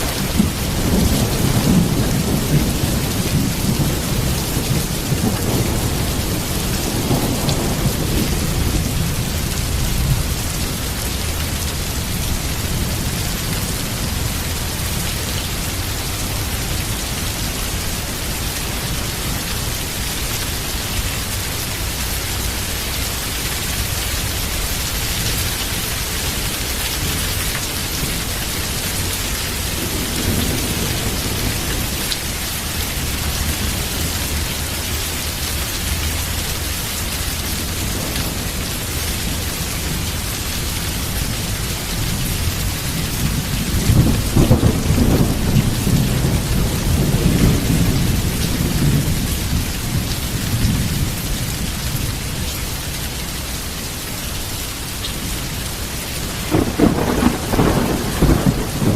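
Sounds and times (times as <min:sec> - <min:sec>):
thunder rumbling: 0:00.0 - 0:22.8, 0:23.7 - 0:35.0, 0:37.4 - 0:52.4, 0:56.2 - 0:58.9
heavy rain: 0:00.0 - 0:58.9.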